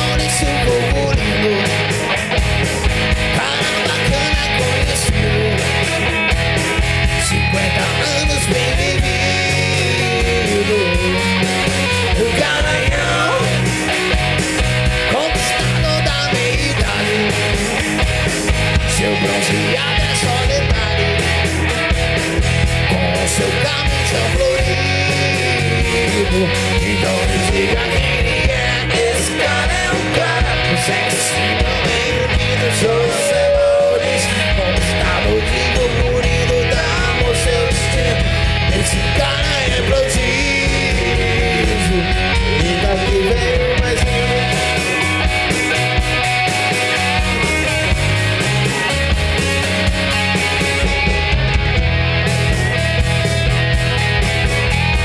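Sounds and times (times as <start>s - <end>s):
hard rock band playing: 0.0s - 55.0s.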